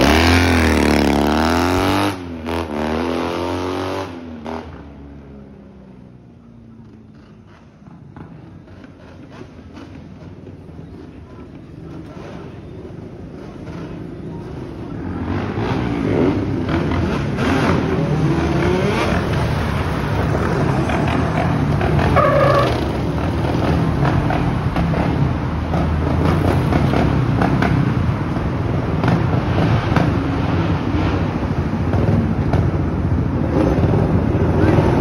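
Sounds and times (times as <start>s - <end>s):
quad bike engines revving: 0.0s - 4.8s, 7.2s - 35.0s
passing car traffic: 0.0s - 35.0s.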